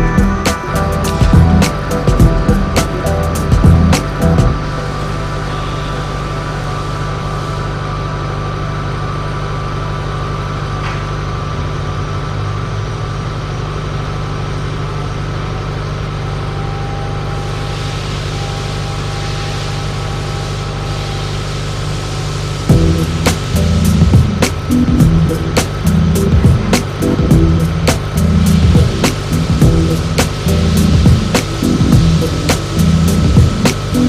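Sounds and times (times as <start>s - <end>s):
machine hum with thin tones: 0.0s - 34.0s.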